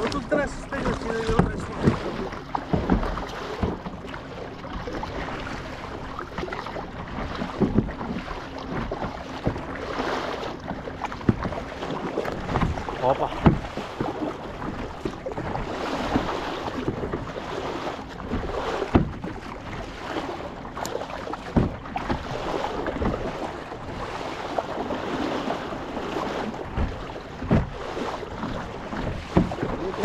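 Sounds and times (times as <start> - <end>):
sharp water slaps: 0.0 - 30.0
water splashing around kayak: 0.0 - 30.0.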